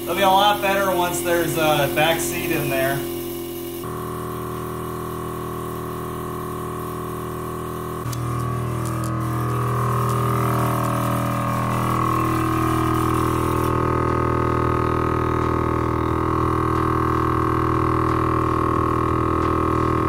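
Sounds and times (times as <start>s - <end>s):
air compressor droning hum: 0.0s - 20.0s.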